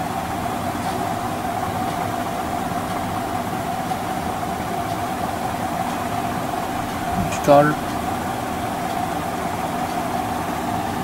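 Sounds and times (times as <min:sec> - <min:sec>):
constant mid-pitched tone: 0:00.0 - 0:11.0
machine hum and hiss: 0:00.0 - 0:11.0.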